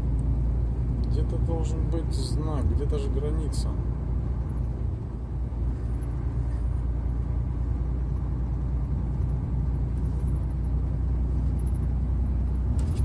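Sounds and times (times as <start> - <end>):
truck engine and tyre drone: 0.0 - 13.0.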